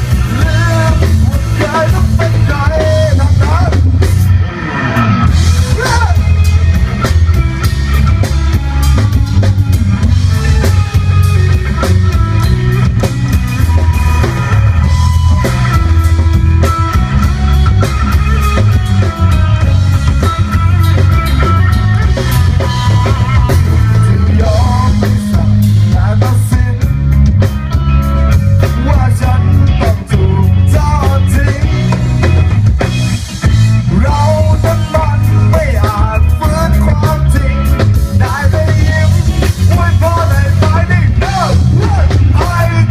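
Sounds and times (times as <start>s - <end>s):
drum kit beat: 0.0s - 4.5s, 5.2s - 42.9s
rock band playing: 0.0s - 42.9s.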